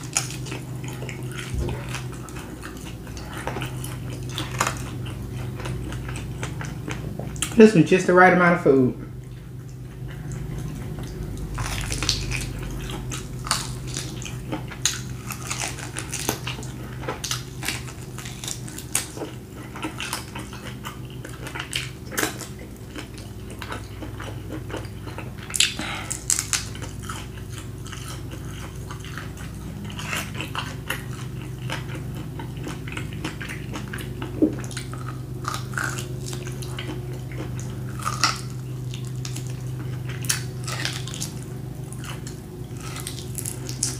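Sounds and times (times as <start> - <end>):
chewing and biting meat: 0.0 - 7.8, 9.1 - 43.9
steady low hum: 0.0 - 43.9.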